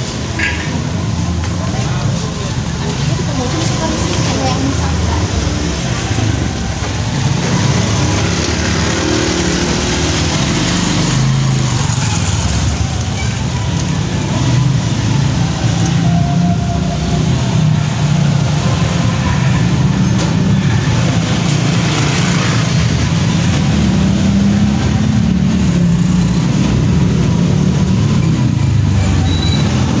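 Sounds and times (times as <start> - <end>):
motor scooters driving past: 0.1 - 30.0.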